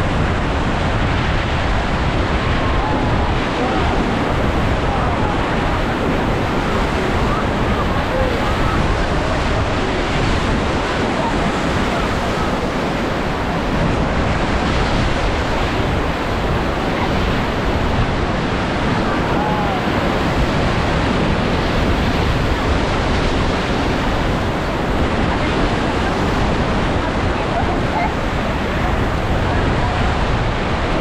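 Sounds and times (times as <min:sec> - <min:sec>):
whitewater rushing: 0:00.0 - 0:31.0
wind buffeting microphone: 0:00.0 - 0:31.0.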